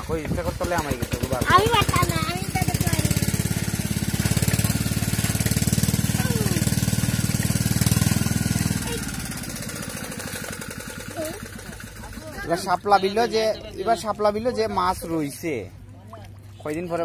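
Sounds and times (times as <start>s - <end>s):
small engine chugging: 0.0s - 15.0s.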